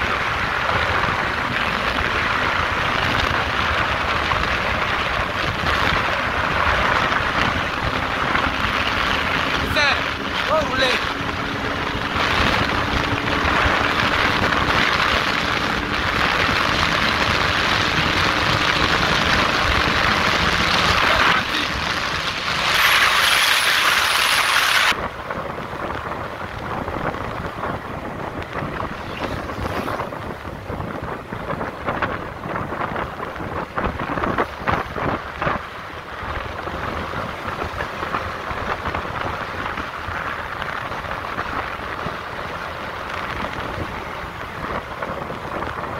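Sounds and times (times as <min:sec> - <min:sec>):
road noise: 0:00.0 - 0:45.9
wind rushing over microphone: 0:00.0 - 0:45.9.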